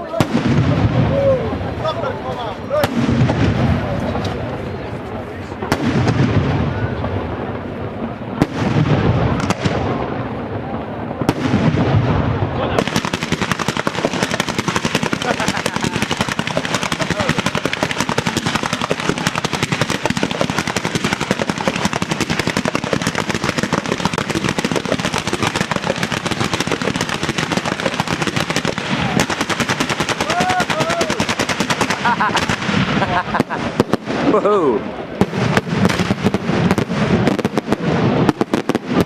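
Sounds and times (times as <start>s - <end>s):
fireworks rapid barrage of bangs: 0.0s - 1.8s, 2.8s - 4.5s, 5.6s - 39.0s.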